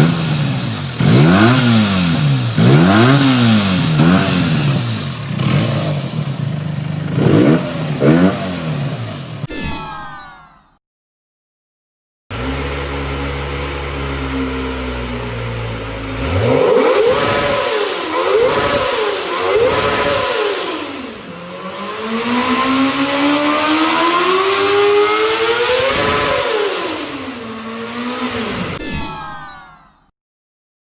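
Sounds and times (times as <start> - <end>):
motorcycle engine idling and revving: 0.0 - 9.5, 12.3 - 28.8.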